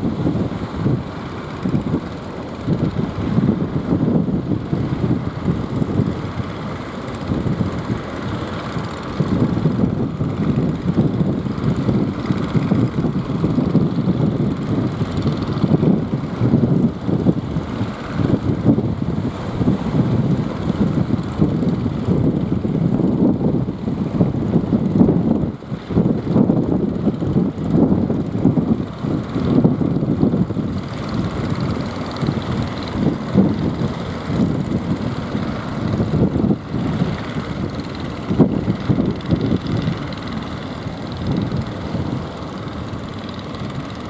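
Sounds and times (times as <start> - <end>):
strong wind buffeting microphone: 0.0 - 44.0.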